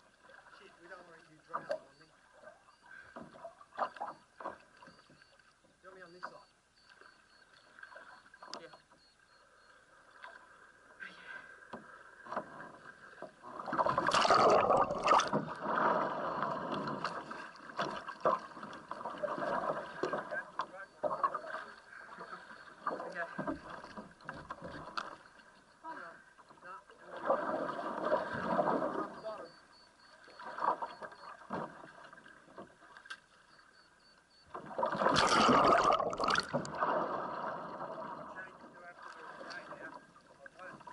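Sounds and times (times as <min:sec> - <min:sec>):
water splashing around kayak: 0:00.0 - 0:40.9.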